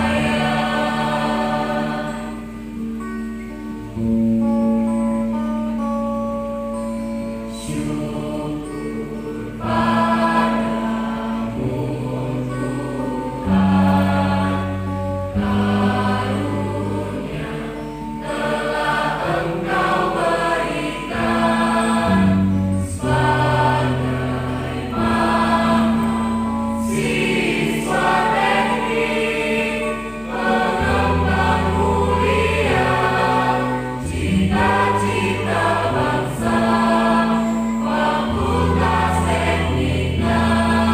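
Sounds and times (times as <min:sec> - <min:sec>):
mixed choir singing: 0:00.0 - 0:02.9, 0:07.5 - 0:40.9.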